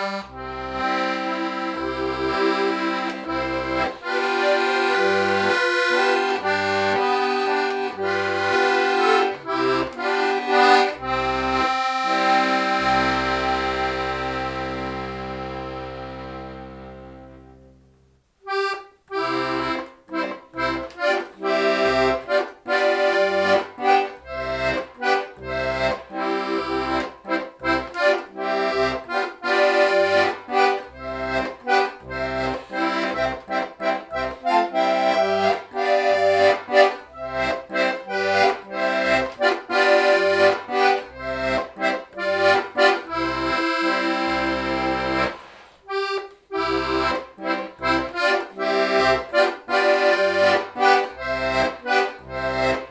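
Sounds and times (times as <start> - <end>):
button accordion folk tune: 0.0 - 52.9.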